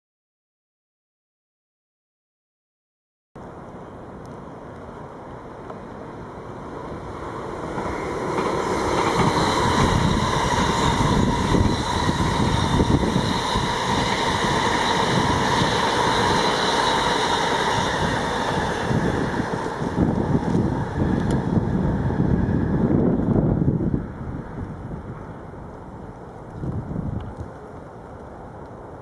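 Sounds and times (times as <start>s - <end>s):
train passing: 3.4s - 29.0s.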